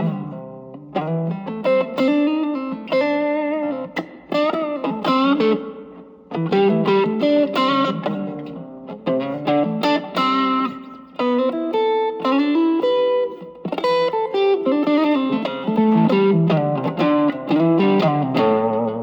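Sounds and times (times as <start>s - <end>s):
overdriven electric guitar lead: 0.0s - 19.0s.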